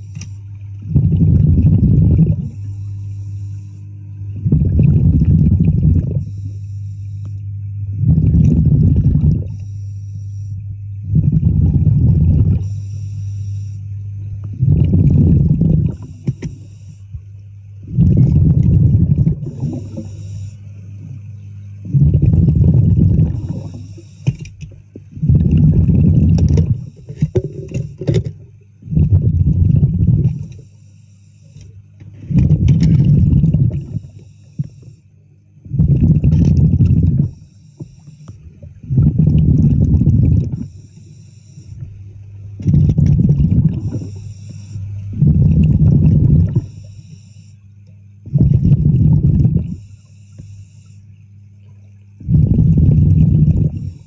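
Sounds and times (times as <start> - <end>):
underwater bubble exhalations: 0.0 - 9.9, 10.5 - 30.7, 31.7 - 35.0, 35.6 - 50.6, 51.4 - 54.0
steady low hum: 0.0 - 54.0.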